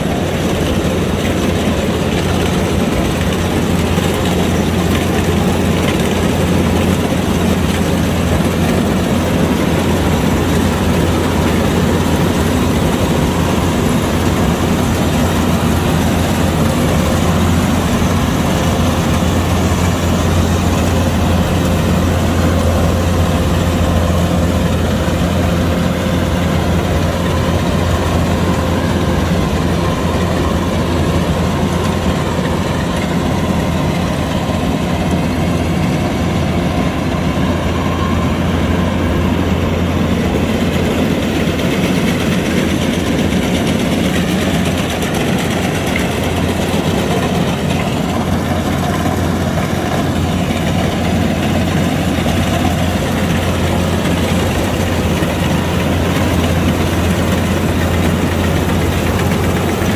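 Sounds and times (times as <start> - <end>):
diesel engine running: 0.0 - 59.9
machine whine: 0.0 - 59.9.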